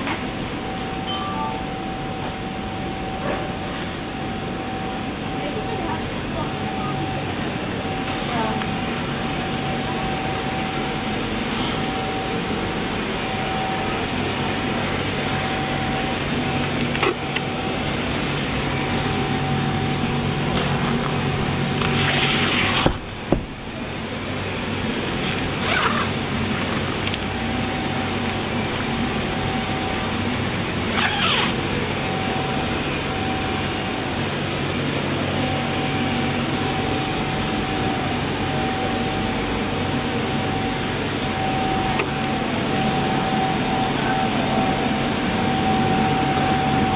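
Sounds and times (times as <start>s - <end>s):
electric air blower running: 7.2s - 46.9s.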